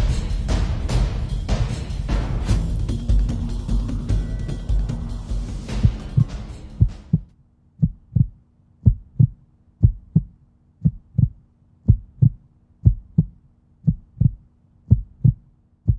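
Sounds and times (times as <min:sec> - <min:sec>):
heartbeat thumps: 0:00.0 - 0:15.9.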